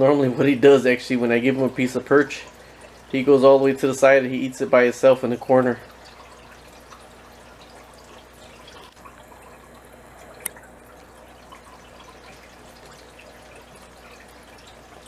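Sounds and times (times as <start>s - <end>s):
aquarium water trickling and dripping: 0.0s - 15.0s.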